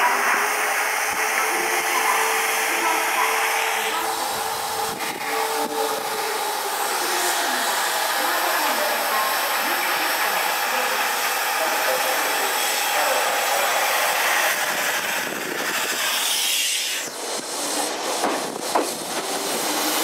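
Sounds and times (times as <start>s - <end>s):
electric train pulling out: 0.0s - 20.0s.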